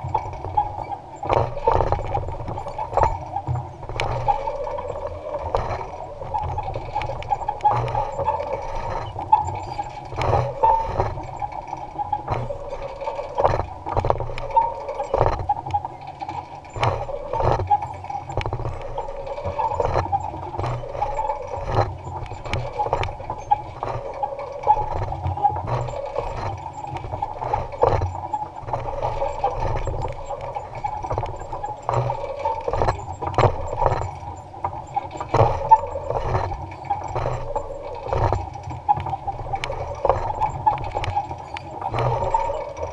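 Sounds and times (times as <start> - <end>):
implement clattering and knocking: 0.0 - 42.9.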